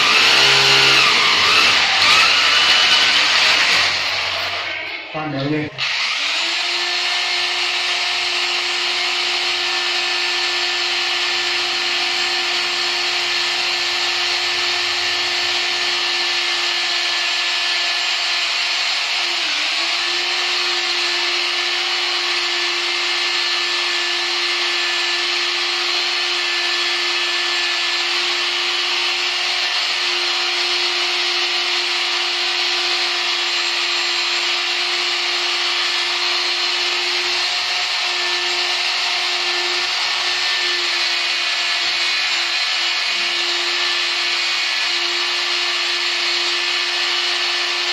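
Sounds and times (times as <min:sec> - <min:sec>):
hammer drill boring into tile: 0:00.0 - 0:04.8, 0:05.8 - 0:47.9.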